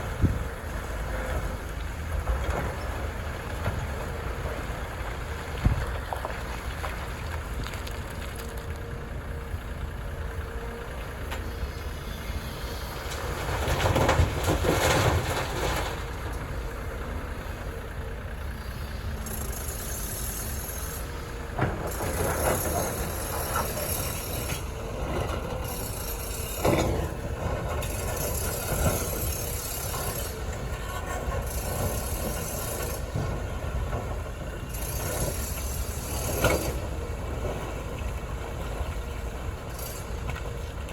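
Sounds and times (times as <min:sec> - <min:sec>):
diesel machinery running: 0:00.0 - 0:40.9.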